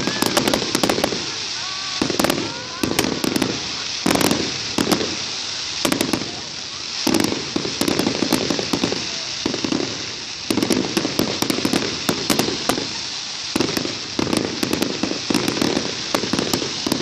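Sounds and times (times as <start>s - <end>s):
fireworks crackling bangs: 0.0s - 17.0s.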